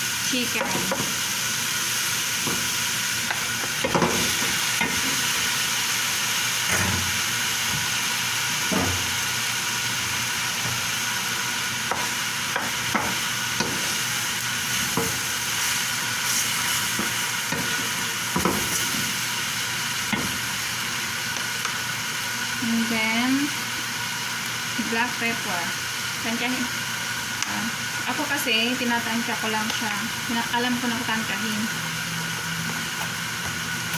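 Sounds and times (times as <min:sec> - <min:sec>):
chicken sizzling in a pan: 0:00.0 - 0:33.9.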